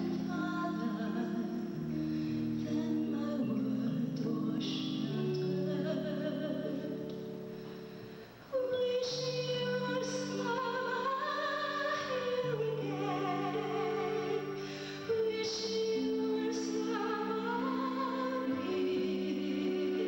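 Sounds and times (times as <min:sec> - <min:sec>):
woman singing with vibrato: 0:00.0 - 0:07.4, 0:08.5 - 0:20.0.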